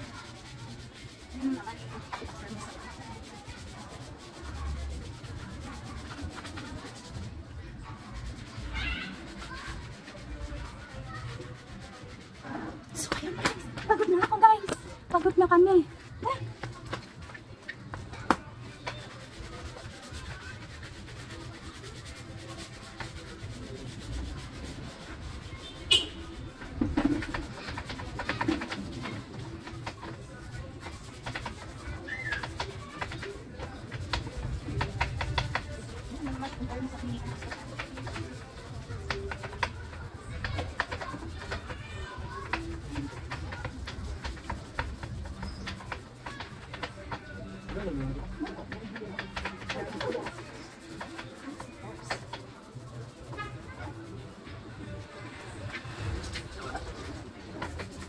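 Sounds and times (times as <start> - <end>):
hands scrubbing a wheel: 0.0 - 58.0.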